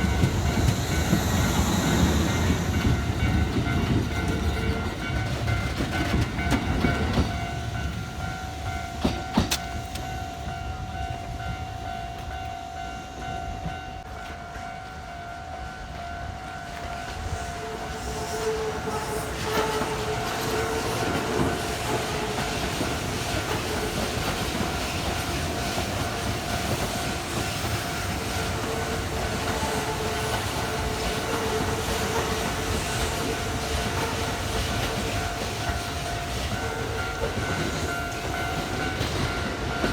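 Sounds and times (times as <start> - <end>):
train wheels clacking over rail joints: 0.0 - 10.2, 16.0 - 39.9.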